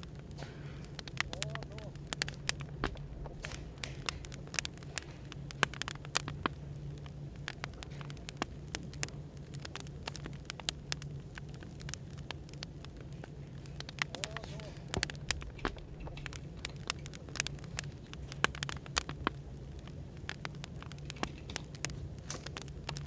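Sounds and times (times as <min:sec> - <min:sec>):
firewood crackling and popping: 0:00.0 - 0:23.0
low hum of white noise: 0:00.0 - 0:23.0.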